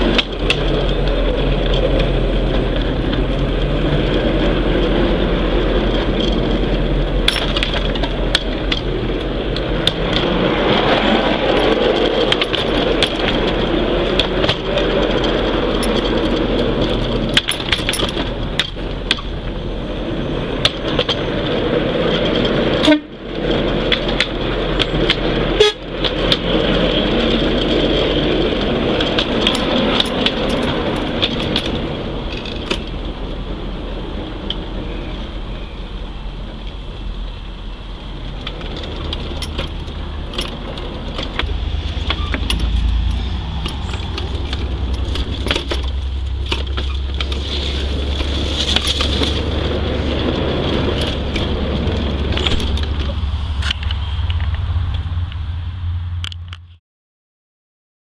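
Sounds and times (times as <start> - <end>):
miniature train wheels clattering: 0.0 - 19.6, 20.6 - 33.6, 38.2 - 55.0.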